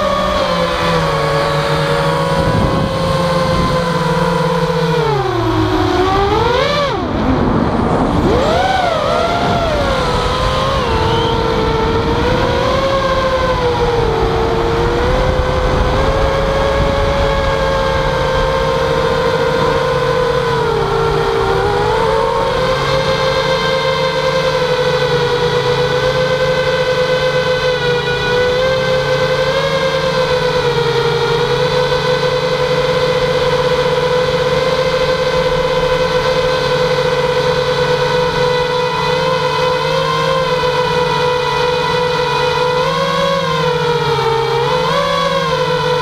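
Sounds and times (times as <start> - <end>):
quadcopter propellers whining: 0.0 - 46.0.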